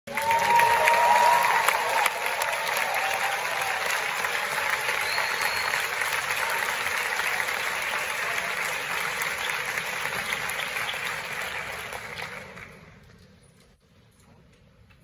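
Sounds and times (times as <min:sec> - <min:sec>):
large audience applauding: 0:00.1 - 0:13.2.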